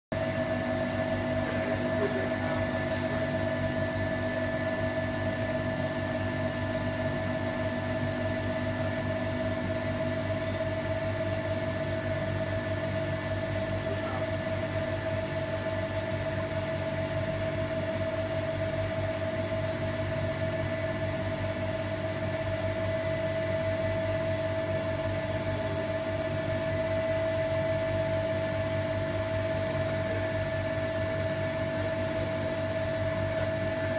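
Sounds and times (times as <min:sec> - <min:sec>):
vacuum pump humming and whining: 0:00.1 - 0:33.9.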